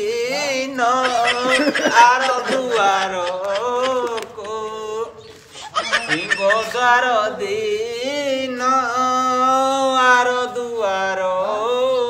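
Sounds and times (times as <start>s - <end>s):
person singing chant-like melody: 0.0s - 12.0s.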